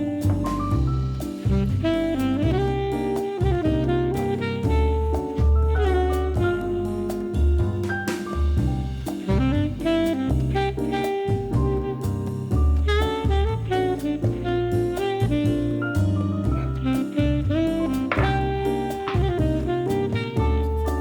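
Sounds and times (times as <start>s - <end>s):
saxophone melody: 0.0s - 7.9s, 9.3s - 21.0s
drum kit and bass: 0.0s - 21.0s.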